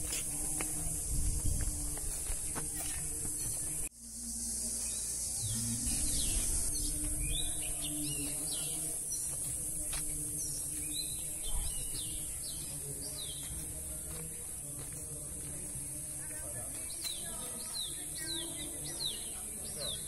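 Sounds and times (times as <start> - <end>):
small birds chirping: 0.0 - 20.0
steady high-pitched hiss: 0.0 - 20.0.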